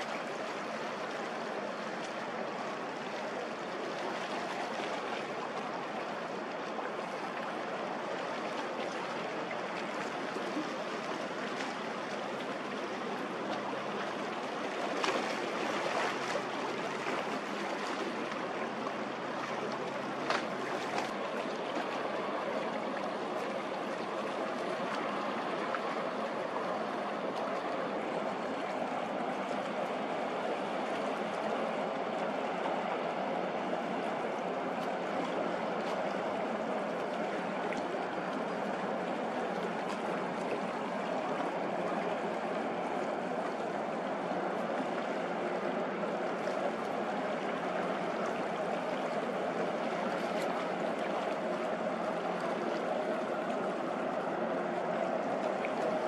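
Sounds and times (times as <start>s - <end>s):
water lapping along shore: 0.0s - 56.0s.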